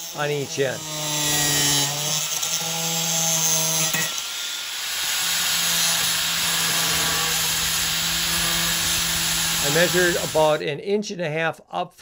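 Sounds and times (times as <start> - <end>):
angle grinder cutting metal: 0.0 - 10.6.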